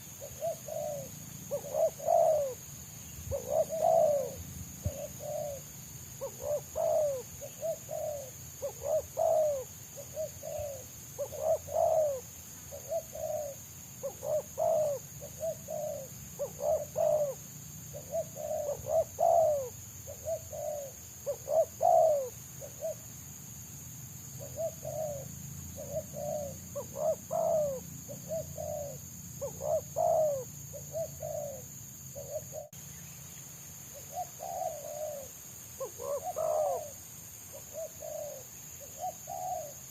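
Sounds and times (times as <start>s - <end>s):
doves cooing: 0.0s - 23.1s, 24.4s - 32.8s, 33.9s - 39.9s.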